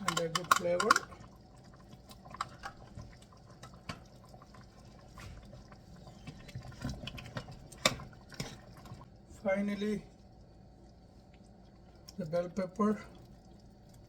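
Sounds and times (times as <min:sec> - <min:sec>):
thick gravy bubbling in pot: 0:00.0 - 0:14.0.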